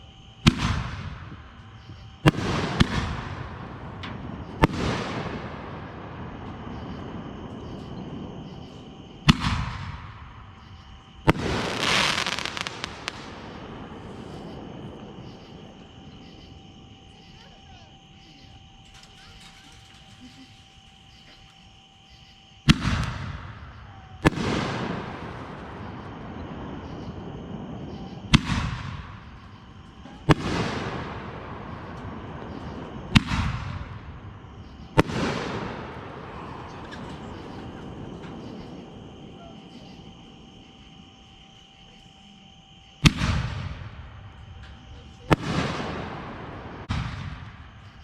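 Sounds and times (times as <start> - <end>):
fireworks bursting with sharp bangs: 0.0 - 21.6, 22.6 - 48.0
fireworks crackle and hiss: 0.0 - 22.0, 22.6 - 48.0.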